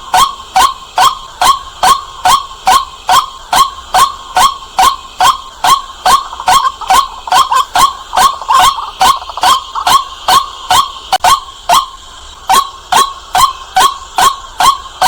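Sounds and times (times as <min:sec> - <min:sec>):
bird kwak call: 0:00.0 - 0:15.0.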